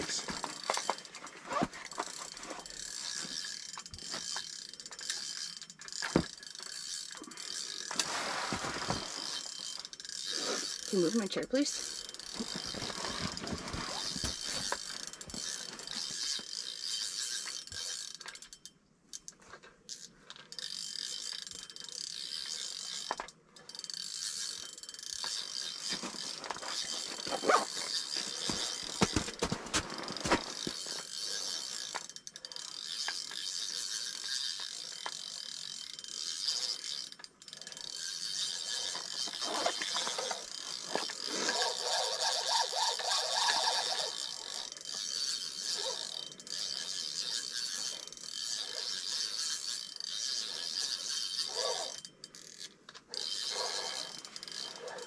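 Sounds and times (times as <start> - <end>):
fishing reel whirring and clicking: 0.1 - 55.0.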